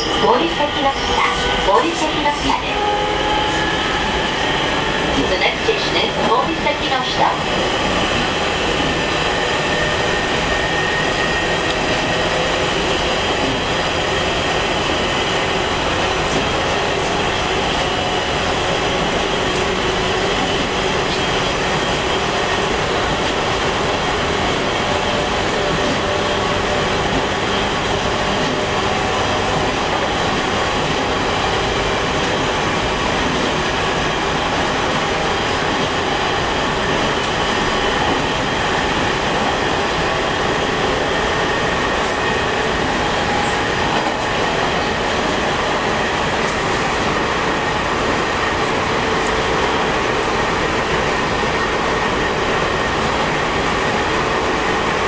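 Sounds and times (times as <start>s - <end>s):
train wheels rolling on rail: 0.0s - 55.0s.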